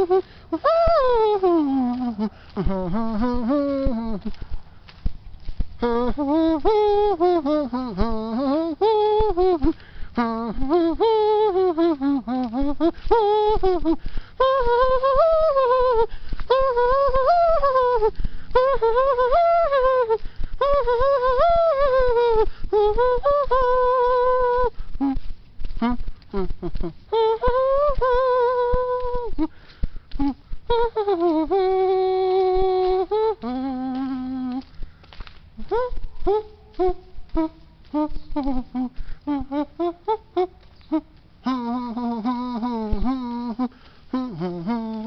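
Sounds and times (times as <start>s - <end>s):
person humming wordlessly: 0.0s - 4.6s, 5.4s - 34.8s, 35.6s - 45.0s.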